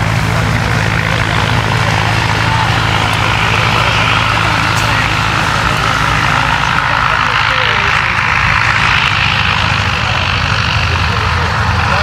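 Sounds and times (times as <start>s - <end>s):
propeller engines droning: 0.0s - 12.0s.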